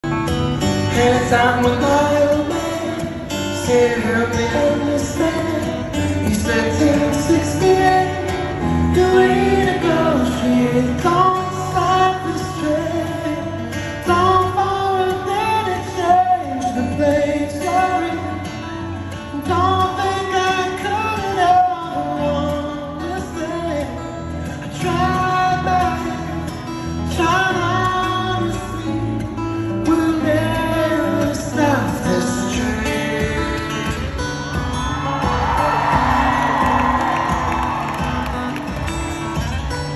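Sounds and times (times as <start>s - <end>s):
solo acoustic guitar: 0.0s - 39.9s.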